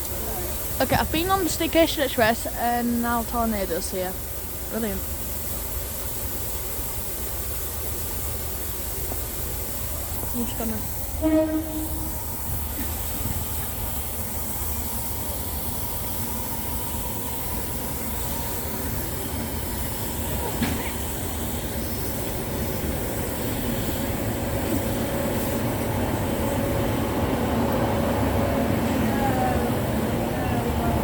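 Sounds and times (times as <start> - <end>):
train rumble and hiss: 0.0 - 31.0.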